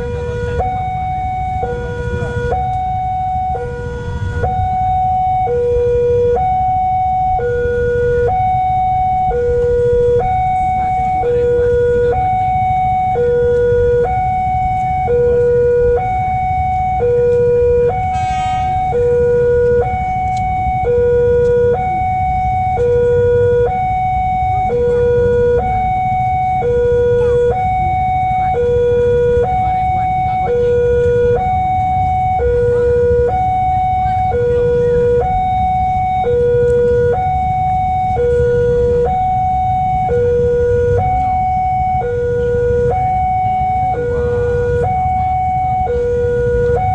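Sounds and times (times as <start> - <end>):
low traffic rumble: 0.0 - 46.9
two-tone crossing alarm chime: 0.0 - 46.9.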